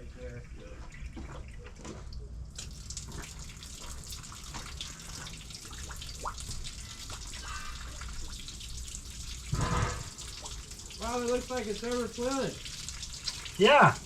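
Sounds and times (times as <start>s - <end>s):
water from hose splashing: 0.6s - 14.0s.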